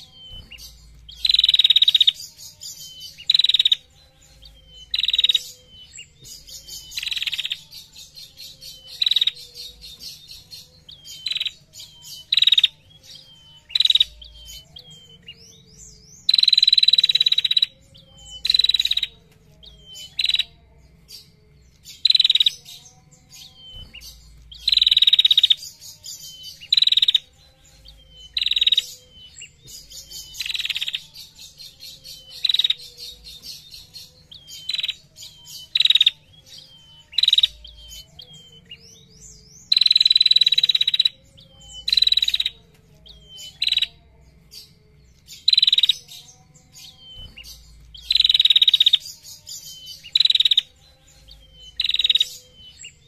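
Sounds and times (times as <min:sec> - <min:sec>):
bird high-pitched trills: 0:00.0 - 0:53.0.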